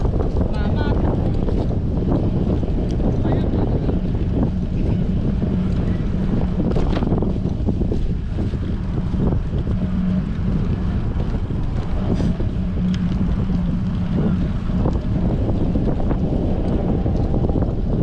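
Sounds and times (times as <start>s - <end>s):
low hum: 0.0s - 18.0s
wind buffeting microphone: 0.0s - 18.0s.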